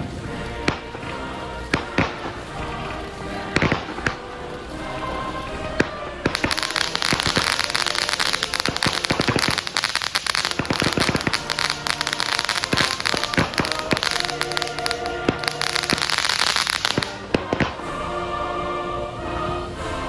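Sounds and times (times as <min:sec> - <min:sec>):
fireworks bangs: 0:00.0 - 0:18.0
fireworks crackling: 0:00.0 - 0:18.6.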